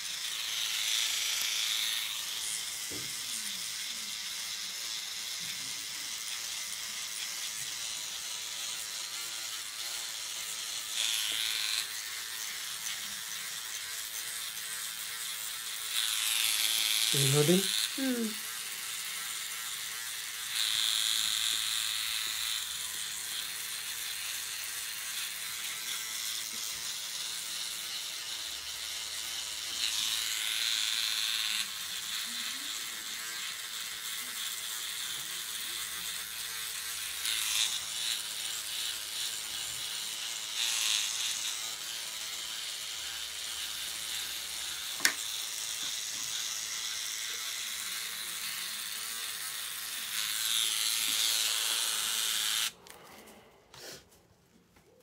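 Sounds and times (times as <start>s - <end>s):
microneedling pen buzzing: 0.0s - 53.0s.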